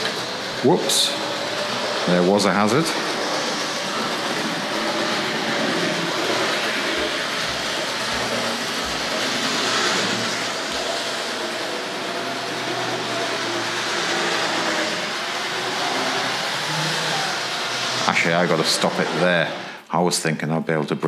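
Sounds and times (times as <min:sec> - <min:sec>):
wheels rattling on rails: 0:00.0 - 0:19.7
model train motor humming: 0:00.0 - 0:19.8.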